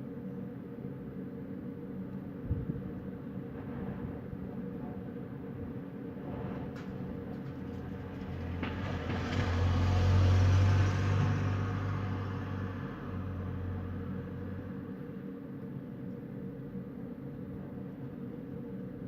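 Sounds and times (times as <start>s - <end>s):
steady low hum: 0.0s - 8.7s, 11.7s - 19.0s.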